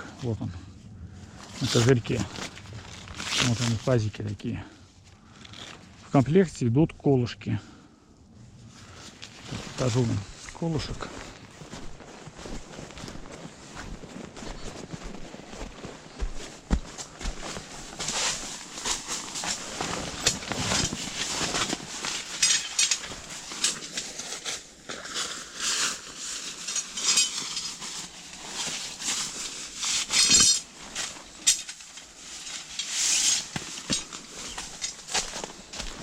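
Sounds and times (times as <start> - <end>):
tent fabric rustling: 1.4 - 4.1, 8.6 - 36.0.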